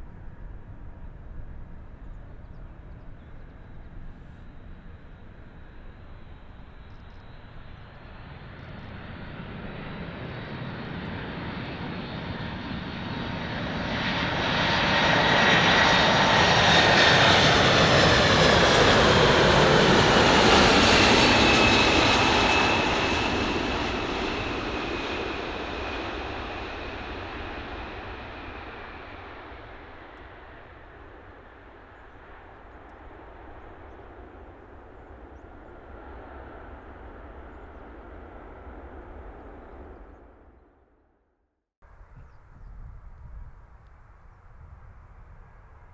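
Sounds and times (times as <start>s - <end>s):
jet engines passing by: 0.0s - 40.6s.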